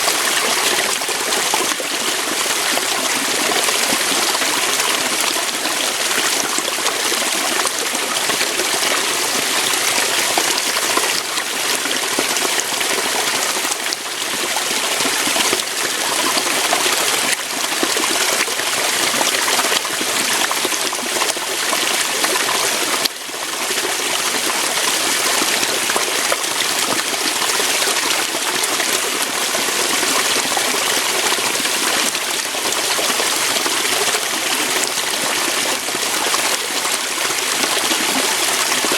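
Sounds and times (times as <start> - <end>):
waterfall pouring over rocks: 0.0 - 38.9.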